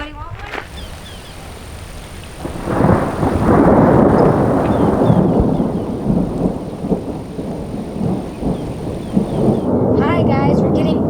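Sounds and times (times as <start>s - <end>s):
low-flying aircraft rumble: 0.2s - 11.0s.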